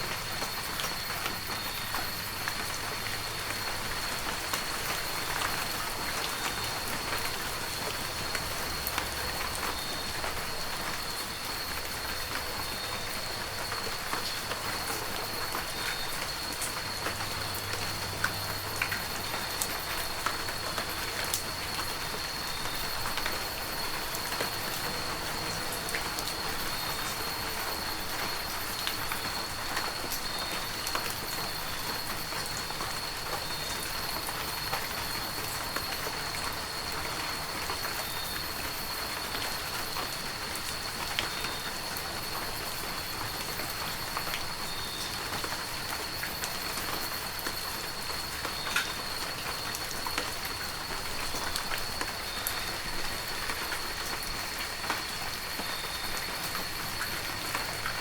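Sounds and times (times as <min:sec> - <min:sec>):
heavy rain: 0:00.0 - 0:58.0
raindrops ticking on surfaces: 0:00.0 - 0:58.0.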